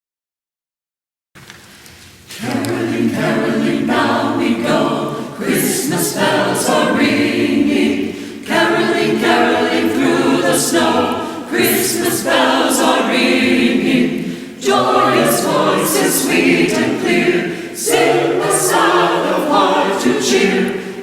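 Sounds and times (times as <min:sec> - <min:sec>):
choir singing: 0:02.3 - 0:21.0.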